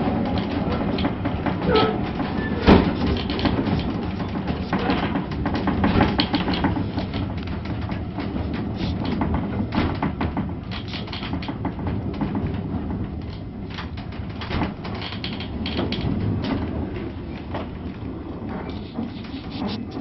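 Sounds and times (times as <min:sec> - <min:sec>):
knocks and rattles of carriage body: 0:00.0 - 0:20.0
railway carriage rumbling on track: 0:00.0 - 0:20.0.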